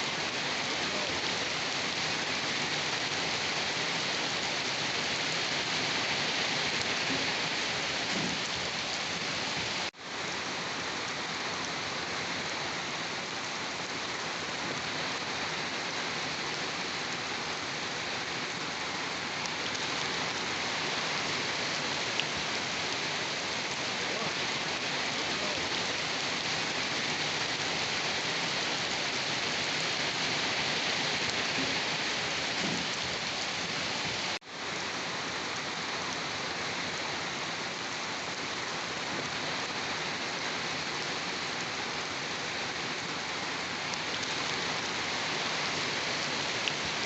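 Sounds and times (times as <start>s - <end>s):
rain falling on a surface: 0.0s - 47.0s.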